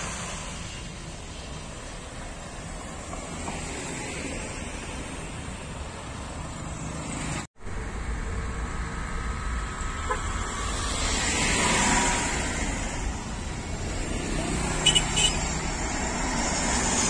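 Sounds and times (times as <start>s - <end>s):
road traffic noise: 0.0s - 17.0s
motorcycles passing: 0.9s - 17.0s.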